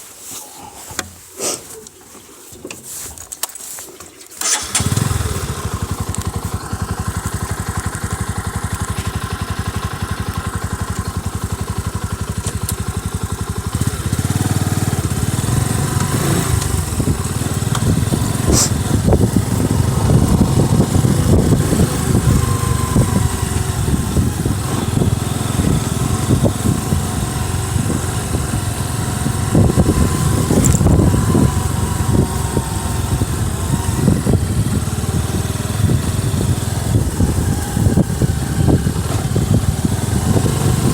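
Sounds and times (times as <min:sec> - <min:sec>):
motorcycle engine running: 0:04.4 - 0:40.9.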